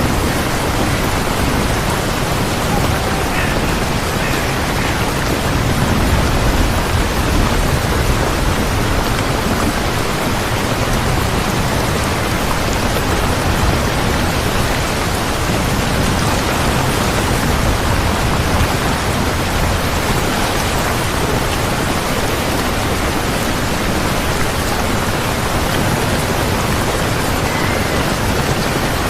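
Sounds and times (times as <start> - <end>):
dense rainfall: 0.0 - 29.0.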